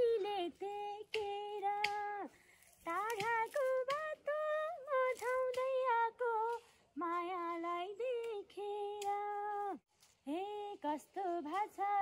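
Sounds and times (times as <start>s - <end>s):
woman singing unaccompanied: 0.0s - 12.0s.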